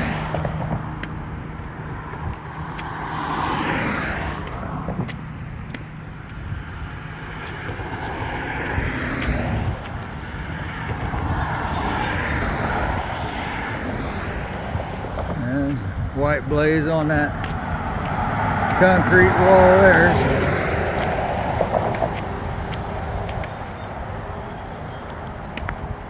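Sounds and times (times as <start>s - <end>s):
cars passing by: 0.0s - 26.0s
low rumble of tyres and engines: 0.0s - 26.0s.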